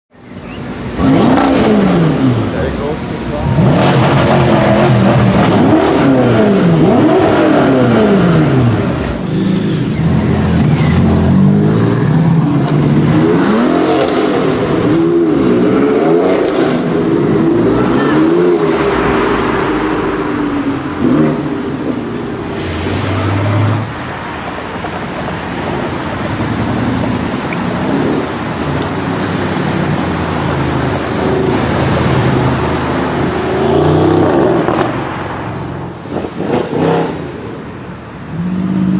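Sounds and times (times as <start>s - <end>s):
car engines revving: 0.1s - 38.9s.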